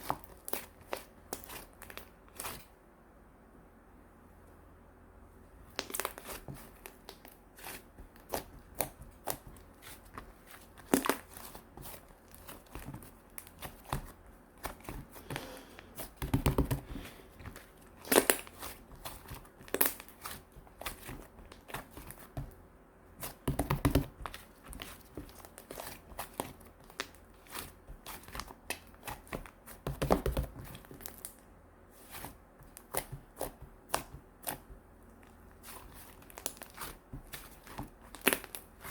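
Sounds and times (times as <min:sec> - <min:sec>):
slime squelches: 0:00.0 - 0:02.8, 0:05.6 - 0:38.9.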